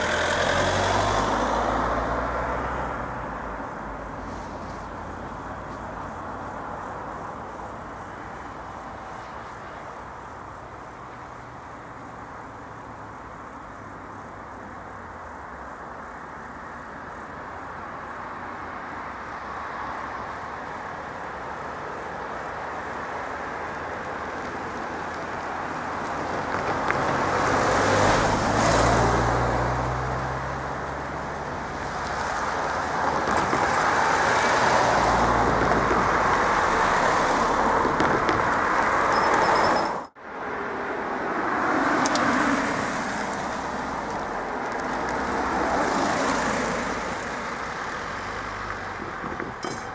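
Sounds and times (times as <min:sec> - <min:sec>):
cars driving past: 0:00.0 - 0:49.9.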